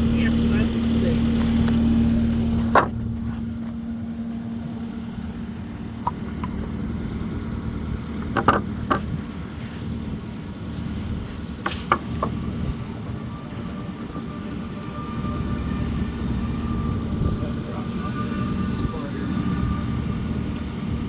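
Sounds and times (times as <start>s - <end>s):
engine running at low speed: 0.0s - 21.0s.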